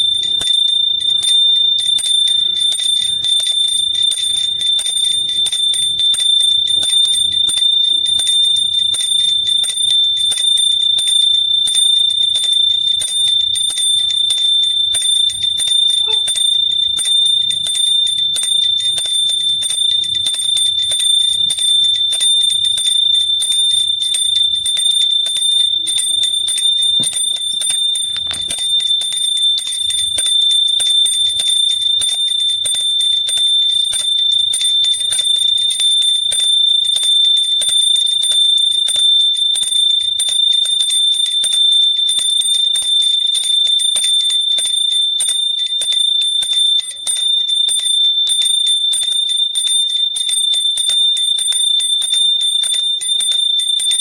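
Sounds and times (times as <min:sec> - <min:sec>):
metal hand bell ringing rapidly: 0:00.0 - 0:54.0.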